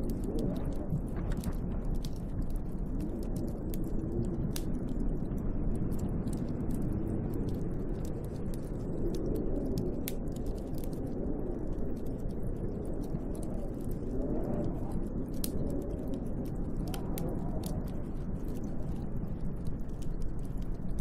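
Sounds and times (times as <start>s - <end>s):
light crackling clicks: 0.0s - 21.0s
wind howling: 0.0s - 21.0s.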